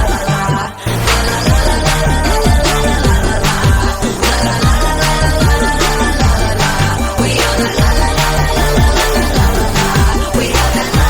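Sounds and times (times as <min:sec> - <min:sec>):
electronic dance music: 0:00.0 - 0:11.0
swooping synth line: 0:00.0 - 0:11.0.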